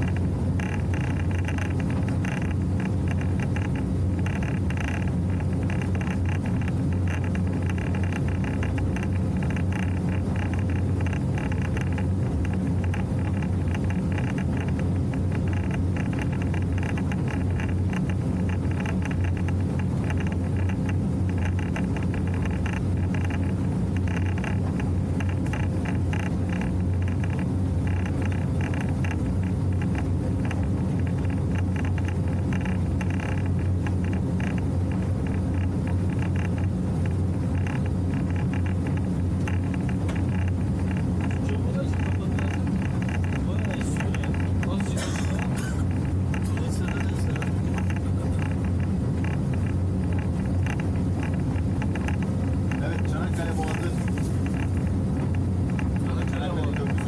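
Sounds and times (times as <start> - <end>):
motorboat engine drone: 0.0 - 57.0.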